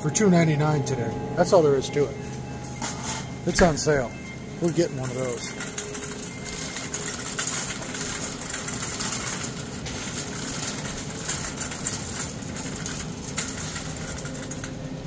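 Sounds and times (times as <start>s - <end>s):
shopping cart rolling and rattling: 2.7s - 15.0s.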